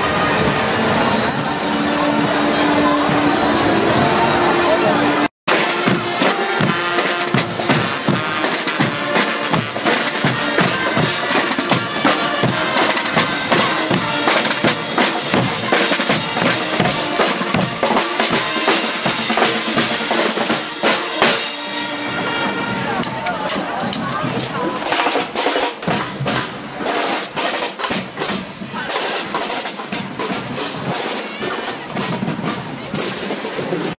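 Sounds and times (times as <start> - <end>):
brass playing: 0.0 - 27.5
snare and bass drums: 5.5 - 21.8, 22.5 - 33.9.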